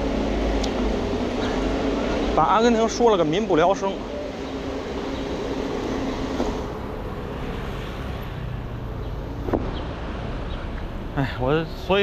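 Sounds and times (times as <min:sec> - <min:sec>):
vehicle engines passing: 0:00.0 - 0:12.0.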